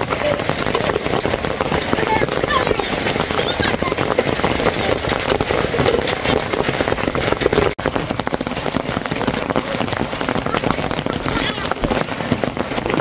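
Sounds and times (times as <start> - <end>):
hail and rain pattering: 0.0 - 13.0.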